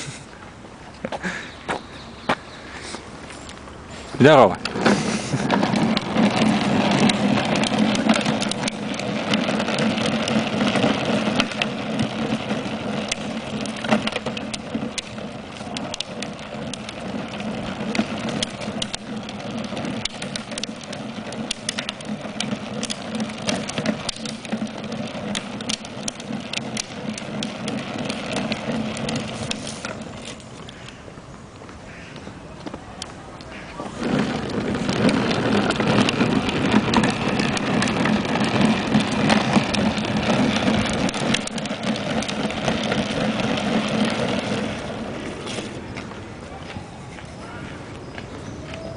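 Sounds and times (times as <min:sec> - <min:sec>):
small motorcycle engine humming: 0:00.0 - 0:48.9
scattered clicks and crunches: 0:04.5 - 0:31.0, 0:32.6 - 0:46.8.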